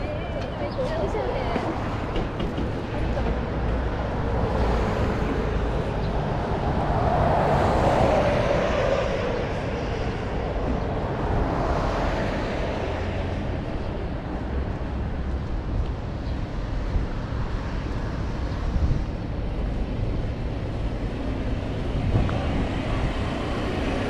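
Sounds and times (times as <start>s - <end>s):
background traffic: 0.0s - 24.0s.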